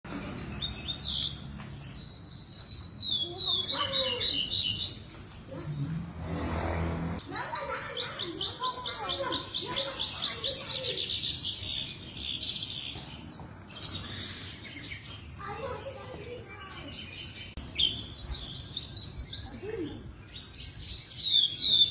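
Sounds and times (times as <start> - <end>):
bird singing: 0.1 - 6.2, 7.2 - 21.9.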